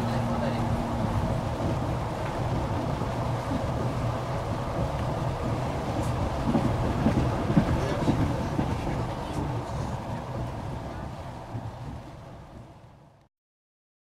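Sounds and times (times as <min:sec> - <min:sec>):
train wheels rumbling on rails: 0:00.0 - 0:13.3.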